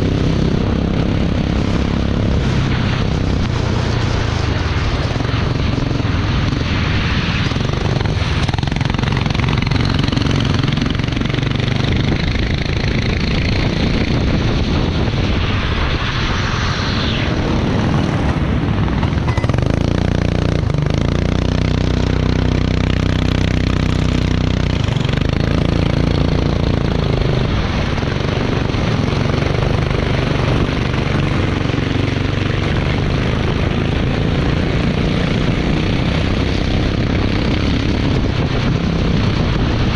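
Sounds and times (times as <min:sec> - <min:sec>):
kart engine running: 0:00.0 - 0:14.4, 0:17.4 - 0:39.9
wind and road noise: 0:00.0 - 0:39.9.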